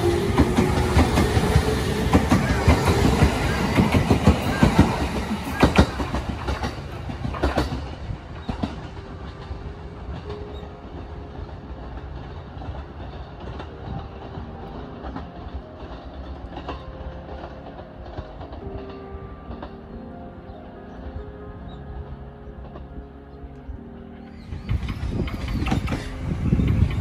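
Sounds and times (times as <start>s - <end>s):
train wheels clattering over rail joints: 0.0s - 19.7s, 24.5s - 27.0s.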